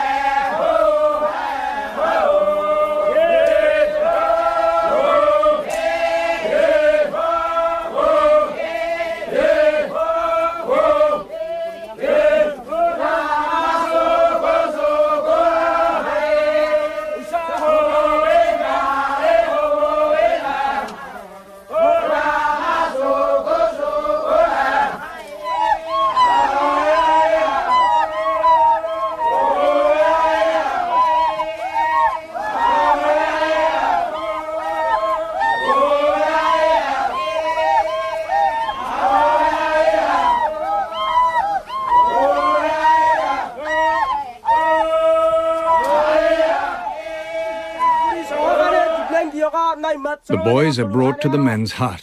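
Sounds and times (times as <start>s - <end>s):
men chanting in unison: 0.0s - 52.0s.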